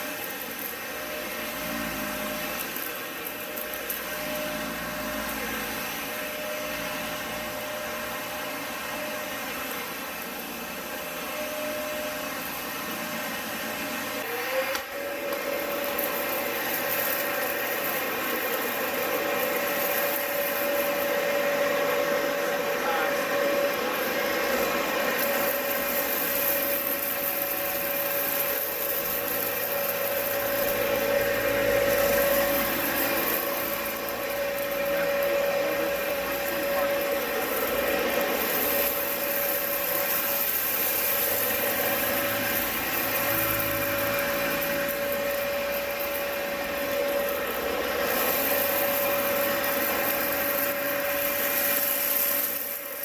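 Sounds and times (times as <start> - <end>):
vacuum cleaner motor whine: 0.0 - 53.0.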